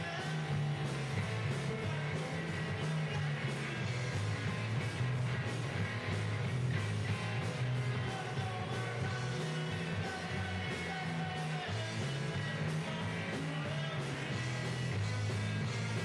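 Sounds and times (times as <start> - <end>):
bass line: 0.0 - 16.0
distorted electric guitars: 0.0 - 16.0
drums: 0.0 - 16.0.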